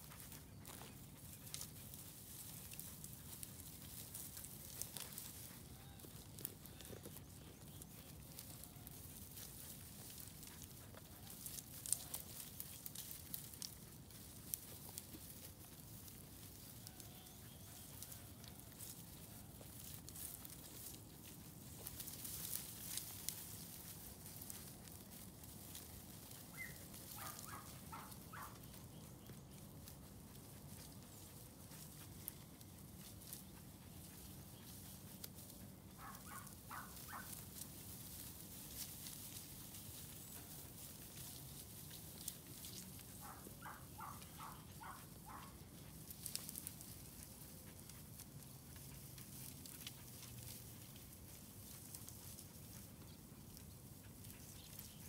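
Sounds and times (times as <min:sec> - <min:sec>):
sheep tearing dry grass: 0:00.0 - 0:55.0.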